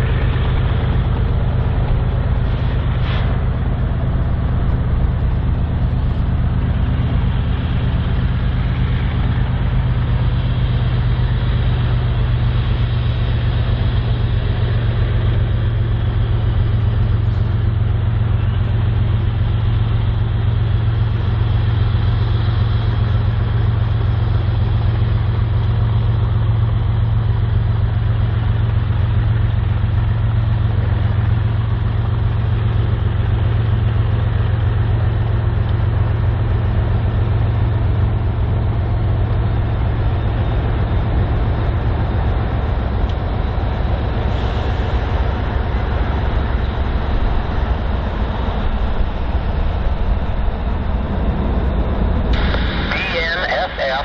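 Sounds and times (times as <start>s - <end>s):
diesel locomotive engine drone: 0.0s - 54.0s
train rushing noise: 0.0s - 54.0s.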